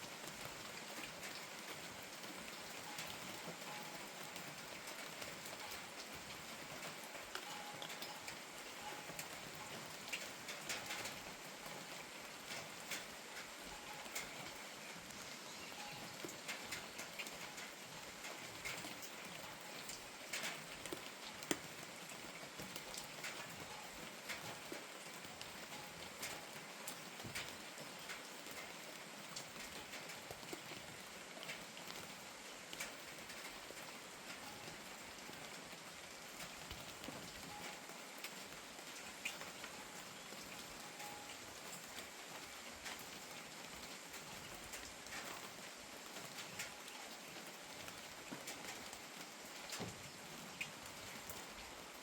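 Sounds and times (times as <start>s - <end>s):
rain drops tapping on hard surfaces: 0.0s - 52.0s.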